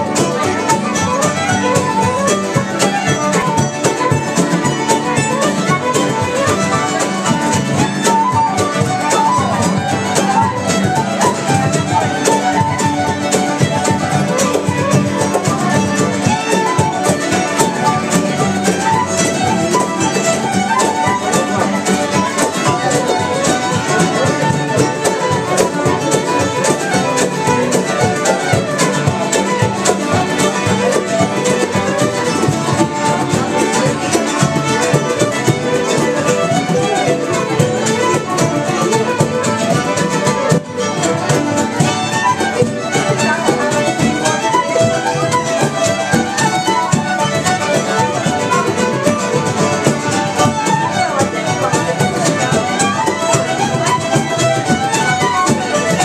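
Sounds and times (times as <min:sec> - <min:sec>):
fiddles playing: 0:00.0 - 0:56.0
strummed acoustic guitars: 0:00.0 - 0:56.0
wooden flute: 0:00.0 - 0:56.0.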